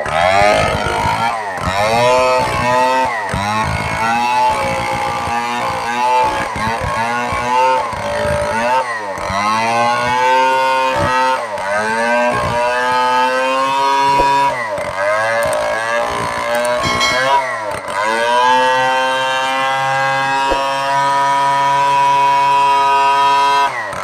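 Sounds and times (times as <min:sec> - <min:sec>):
chainsaw engine revving: 0:00.0 - 0:16.8, 0:17.7 - 0:24.0.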